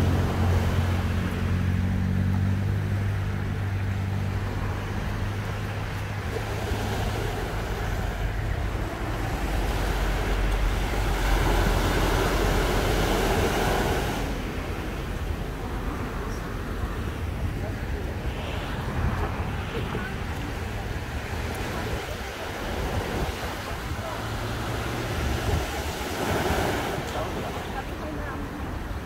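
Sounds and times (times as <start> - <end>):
small waves washing onto beach: 0.0 - 29.0.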